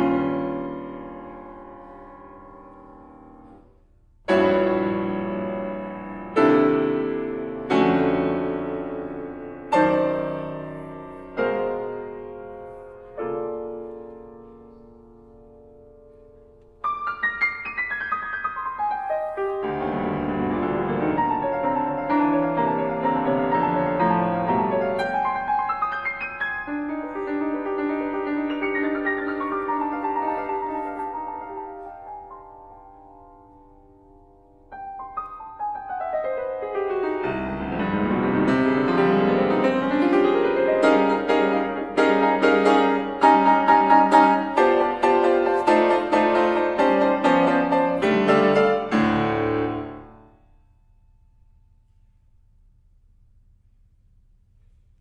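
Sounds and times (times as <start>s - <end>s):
grand piano playing: 0.0s - 54.4s.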